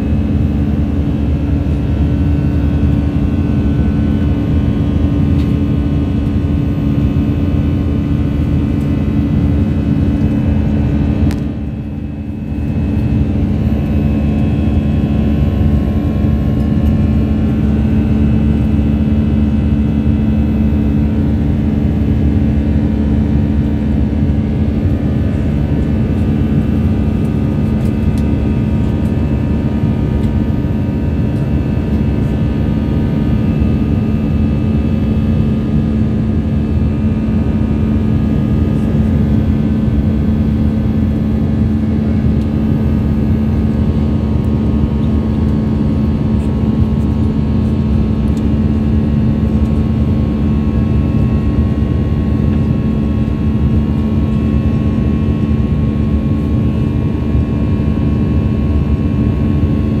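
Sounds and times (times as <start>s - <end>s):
jet engines rumbling in cabin: 0.0s - 60.0s
low hum: 0.0s - 60.0s.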